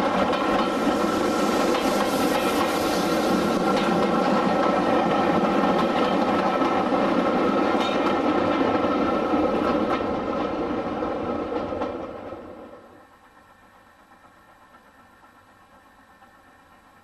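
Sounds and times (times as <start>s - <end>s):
train wheels rumbling and clattering: 0.0s - 17.0s.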